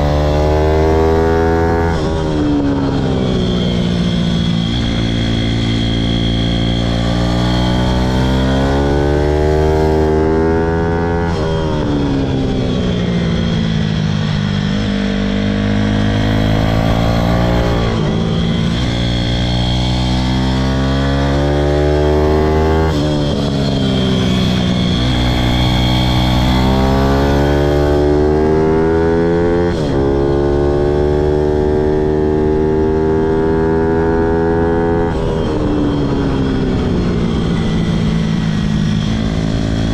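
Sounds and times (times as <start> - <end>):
dirt bike engine at full throttle: 0.0 - 39.9.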